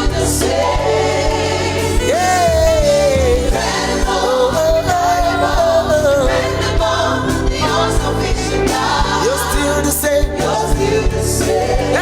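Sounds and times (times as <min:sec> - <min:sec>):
band with steady beat: 0:00.0 - 0:12.0
voices singing: 0:00.0 - 0:12.0.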